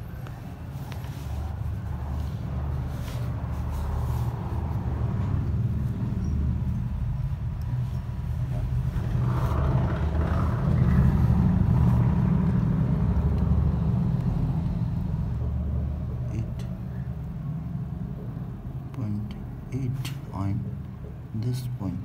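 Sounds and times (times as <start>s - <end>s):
low rumble: 0.0s - 21.5s.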